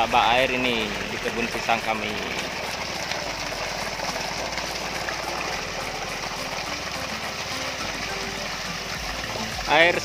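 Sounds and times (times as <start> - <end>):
water gushing from pipe: 0.0 - 10.0.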